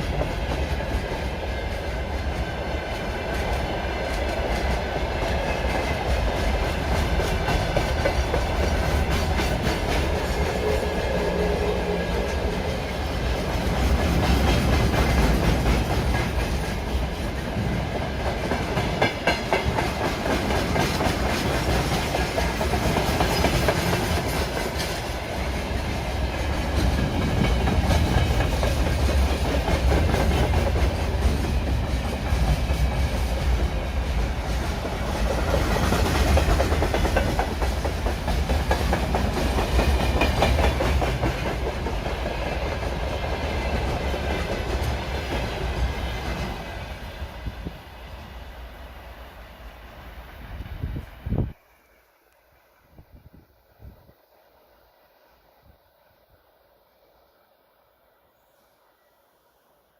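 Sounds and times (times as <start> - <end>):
train rumbling past: 0.0 - 59.1.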